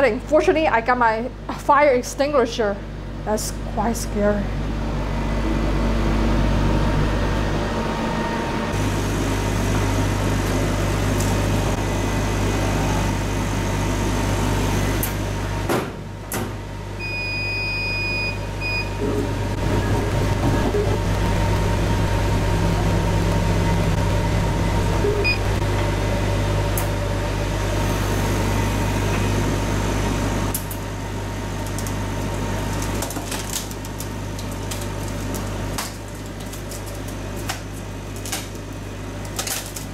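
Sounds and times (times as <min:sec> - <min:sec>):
fan and pumps humming: 0:00.0 - 0:39.9.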